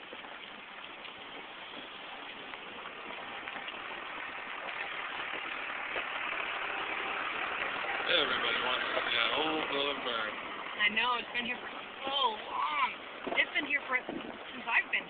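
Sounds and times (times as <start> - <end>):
road noise: 0.0 - 15.0
car engine running: 1.4 - 15.0.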